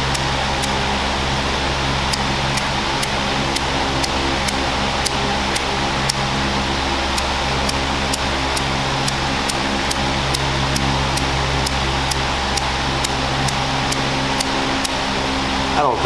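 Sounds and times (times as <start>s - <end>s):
light ticking: 0.0s - 0.8s, 2.0s - 6.2s, 7.1s - 15.0s
electric fan whirring: 0.0s - 16.0s.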